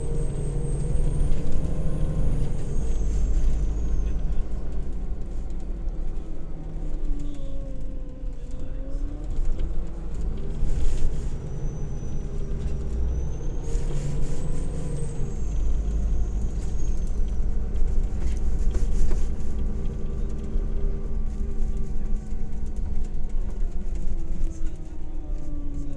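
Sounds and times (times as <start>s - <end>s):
coach engine rumble: 0.0s - 25.9s
road noise: 0.0s - 25.9s.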